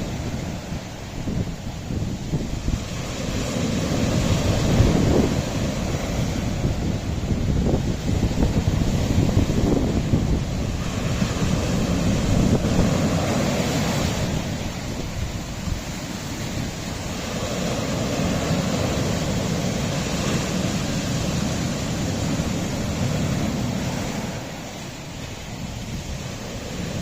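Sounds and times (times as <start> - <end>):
sea waves against rocky shore: 0.0 - 27.0
wind buffeting microphone: 0.0 - 27.0.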